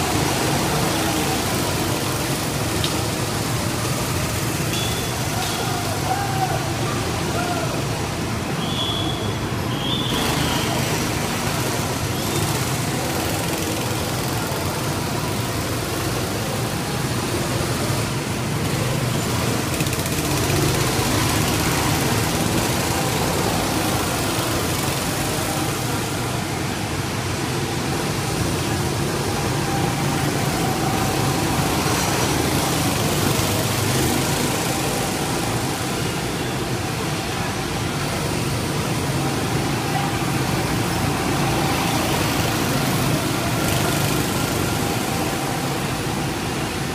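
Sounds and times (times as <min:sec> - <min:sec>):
go-kart engines droning: 0:00.0 - 0:46.9.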